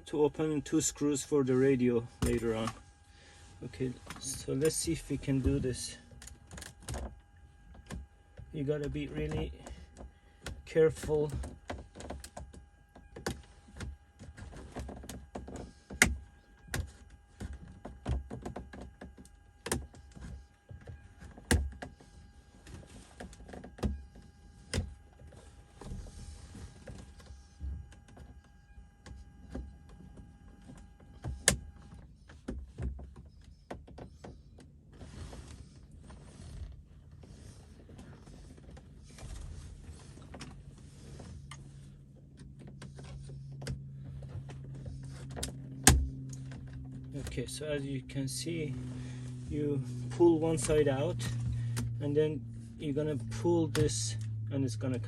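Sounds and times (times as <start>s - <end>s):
faint high-pitched hum: 0.0s - 55.0s.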